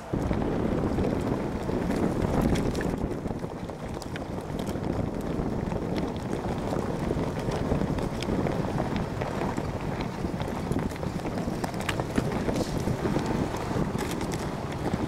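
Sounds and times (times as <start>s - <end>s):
rocks knocking under tyres: 0.0s - 15.0s
vehicle engine rumble: 0.0s - 15.0s.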